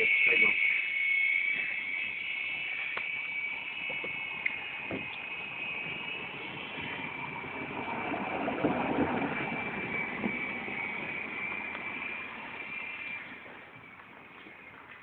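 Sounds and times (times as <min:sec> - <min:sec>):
model helicopter whining: 0:00.0 - 0:15.0.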